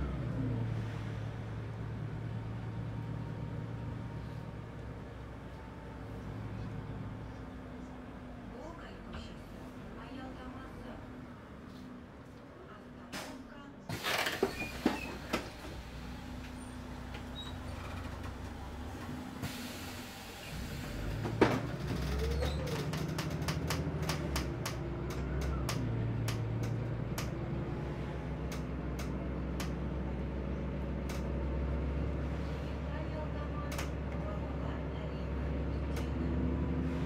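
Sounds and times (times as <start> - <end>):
bus engine drone: 0.0 - 37.0.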